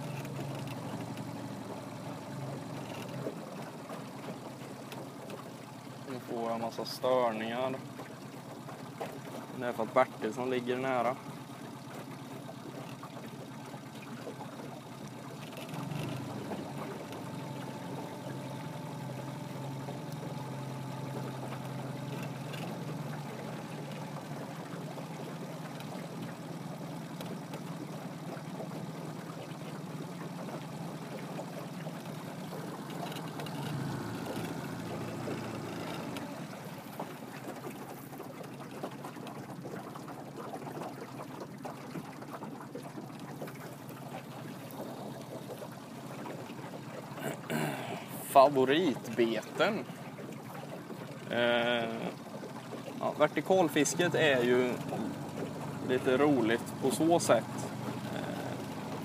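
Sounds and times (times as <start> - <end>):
boat motor running: 0.0 - 59.0
water lapping against hull: 0.0 - 59.0.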